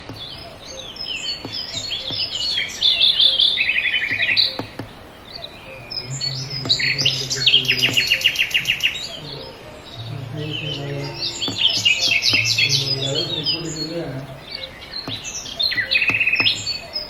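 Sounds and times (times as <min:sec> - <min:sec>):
small songbird chirping and trilling: 0:00.0 - 0:17.0.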